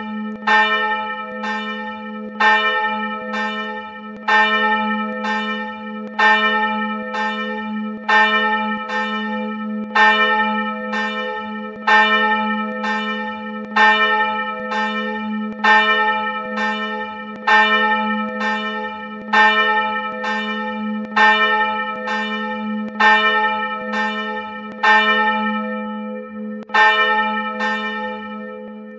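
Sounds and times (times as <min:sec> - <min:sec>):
church bell ringing: 0:00.0 - 0:28.9.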